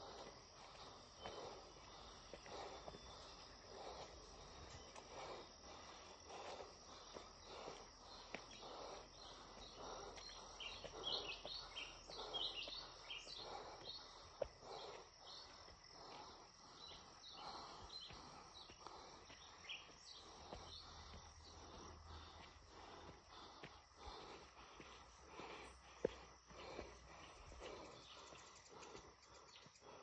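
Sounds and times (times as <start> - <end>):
footsteps on a dirt trail: 0.0 - 30.0.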